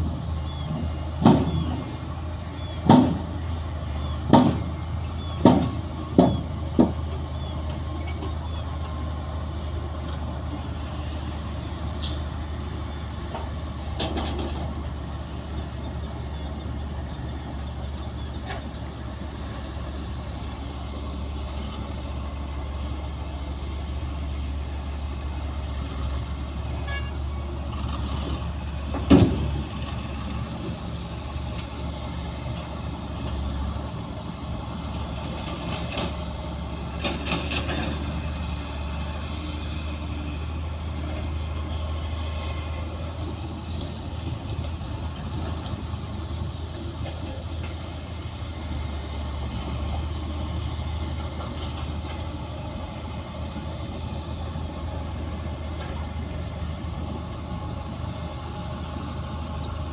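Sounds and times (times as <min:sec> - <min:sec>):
diesel earthmoving machinery drone: 0:00.0 - 0:59.9.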